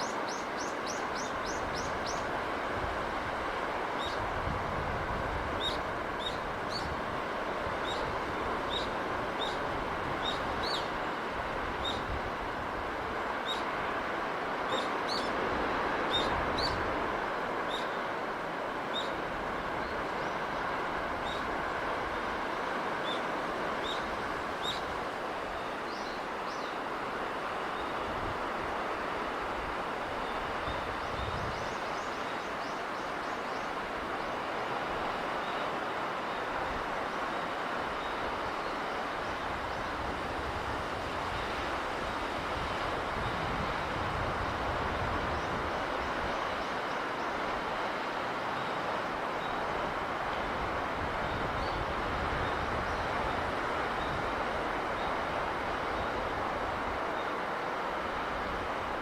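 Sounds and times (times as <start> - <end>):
rushing sea breeze: 0.0 - 59.0.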